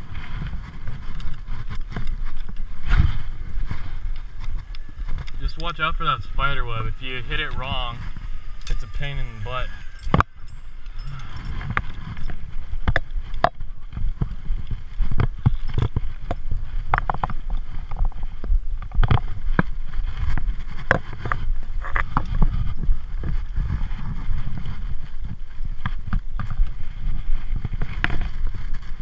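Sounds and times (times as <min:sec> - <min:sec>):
wind on microphone: 0:00.0 - 0:29.0
zip-line trolley rumbling on cable: 0:00.0 - 0:29.0.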